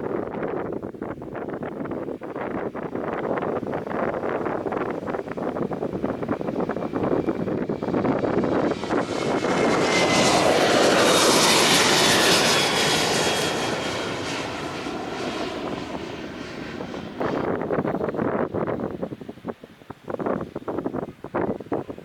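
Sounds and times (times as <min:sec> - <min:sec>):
wind gusts on microphone: 0:00.0 - 0:22.0
airliner passing by: 0:01.8 - 0:20.8.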